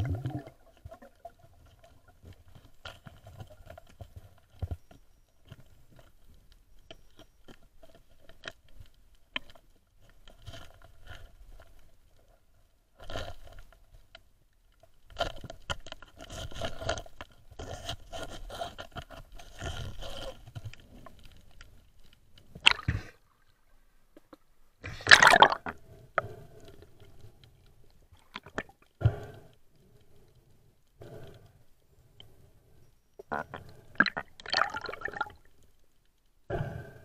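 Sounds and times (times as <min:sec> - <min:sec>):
underwater scraping and clicking: 0:00.0 - 0:36.2.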